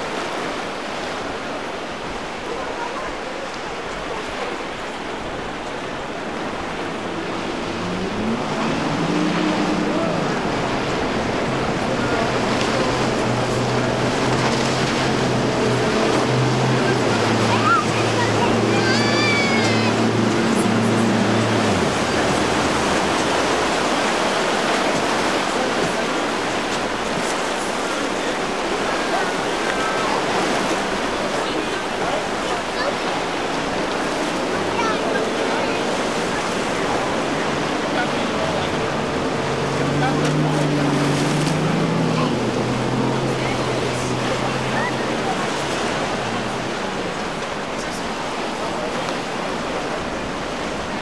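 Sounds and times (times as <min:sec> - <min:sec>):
outboard engine humming: 0:00.0 - 0:51.0
rush of hull spray and wake: 0:00.0 - 0:51.0
waves breaking: 0:00.0 - 0:51.0.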